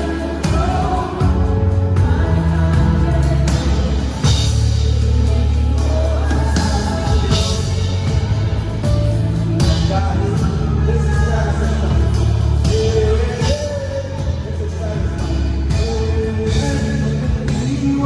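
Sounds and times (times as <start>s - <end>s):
drum and cymbal hits: 0.0s - 18.0s
gospel singing: 0.0s - 18.0s
heavy sustained bass line: 0.0s - 18.0s.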